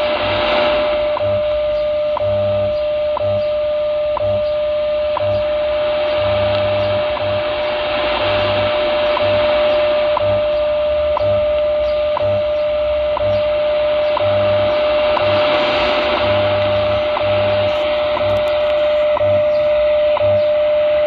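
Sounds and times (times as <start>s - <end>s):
low time code pulses: 0.0s - 21.0s
shortwave static hiss: 0.0s - 21.0s
steady radio tone: 0.0s - 21.0s.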